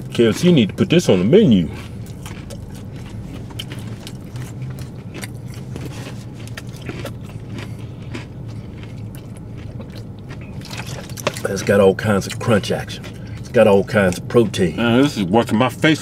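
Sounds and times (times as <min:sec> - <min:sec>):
crunchy chewing: 0:00.0 - 0:14.8
low hum inside car: 0:00.0 - 0:16.0.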